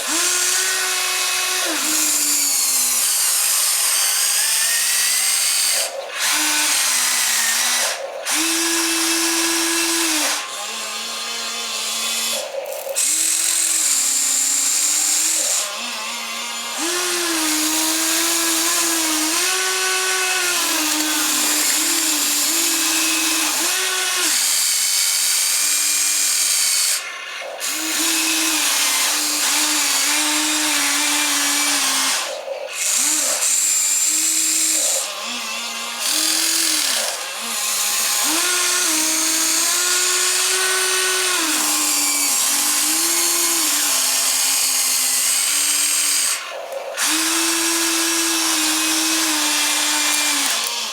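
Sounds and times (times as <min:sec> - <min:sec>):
toy electric motors whirring: 0:00.0 - 0:50.9.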